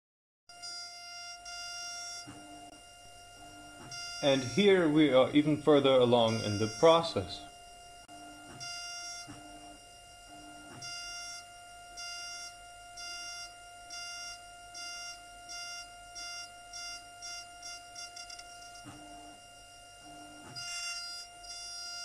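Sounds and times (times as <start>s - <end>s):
milling spindle whining: 0.6s - 22.0s.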